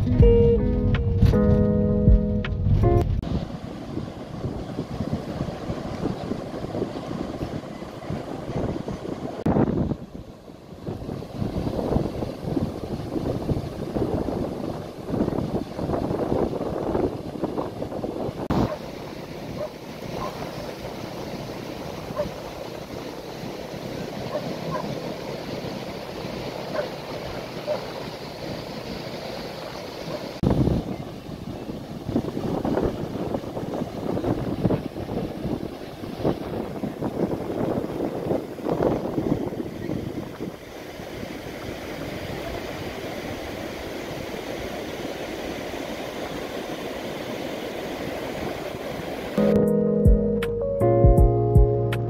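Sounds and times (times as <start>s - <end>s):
ocean waves breaking: 0.0s - 50.4s
surf washing up a beach: 3.2s - 50.0s.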